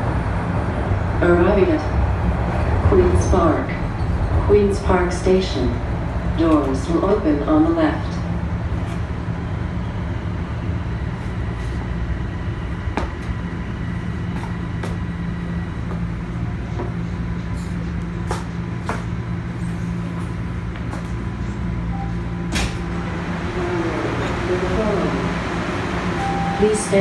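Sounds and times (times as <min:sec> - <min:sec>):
subway train rumble and hum: 0:00.0 - 0:27.0.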